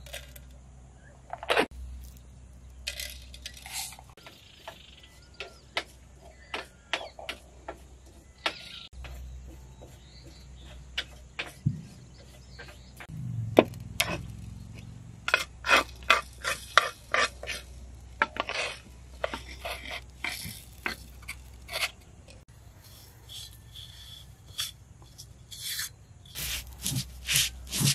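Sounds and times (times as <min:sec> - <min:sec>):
wooden spatula scraping spices: 0:03.6 - 0:13.1, 0:14.0 - 0:27.9.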